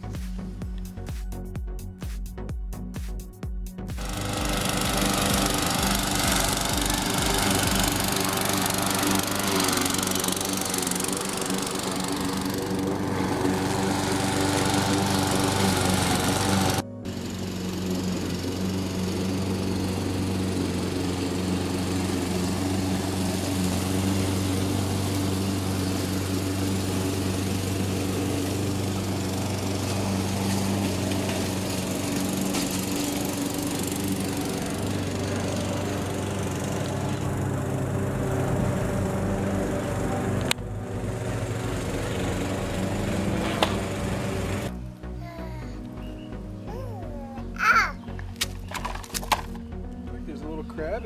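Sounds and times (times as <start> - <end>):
small engine running: 0.0 - 1.0, 3.8 - 51.0.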